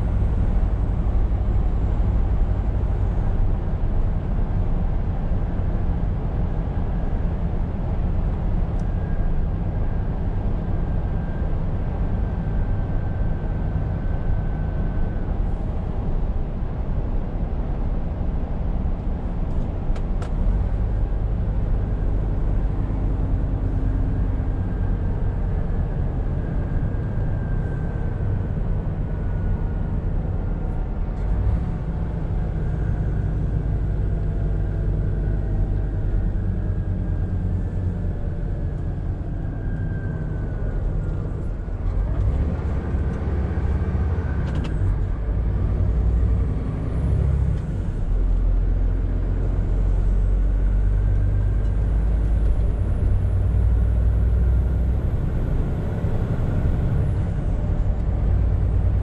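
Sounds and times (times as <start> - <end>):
road noise: 0.0 - 59.0
truck engine drone: 0.0 - 59.0.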